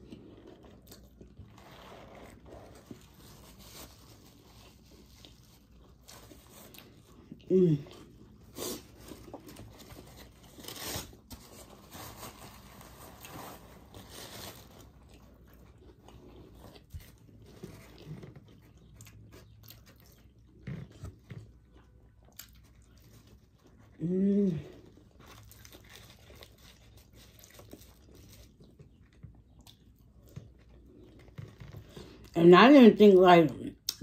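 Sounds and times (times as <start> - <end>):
person chewing crunchy fries: 0.0 - 24.0, 24.6 - 32.4.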